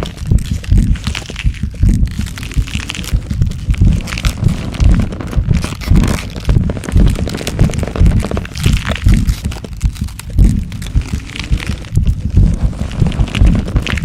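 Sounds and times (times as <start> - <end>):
crunches and cracks: 0.0 - 14.0
heavy low thuds: 0.0 - 14.0.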